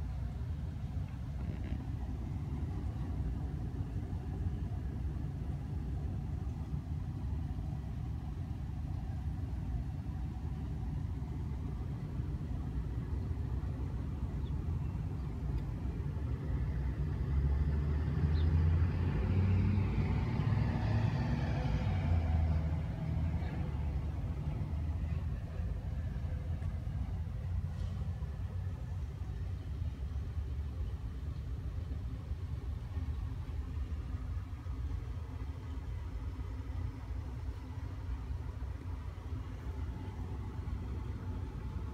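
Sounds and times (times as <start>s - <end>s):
street traffic: 0.0s - 41.9s
vehicle engine hum: 0.0s - 41.9s.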